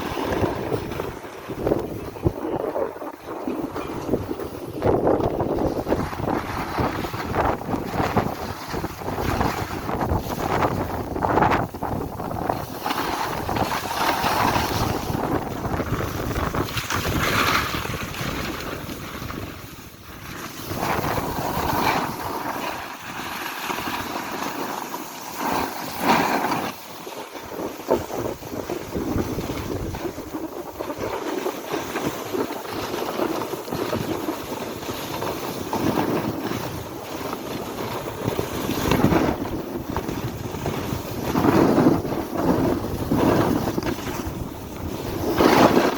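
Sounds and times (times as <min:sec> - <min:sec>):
wind buffeting microphone: 0:00.0 - 0:24.5, 0:25.4 - 0:45.9.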